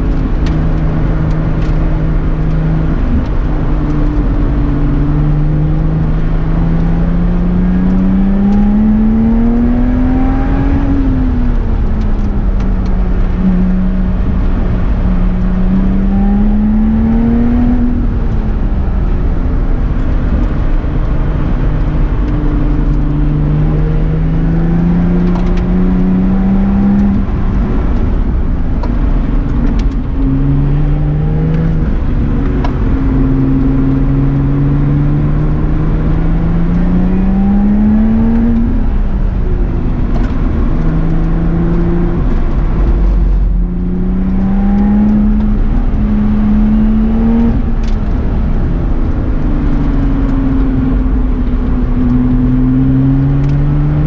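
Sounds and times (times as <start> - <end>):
car engine accelerating and shifting: 0.0 - 54.0.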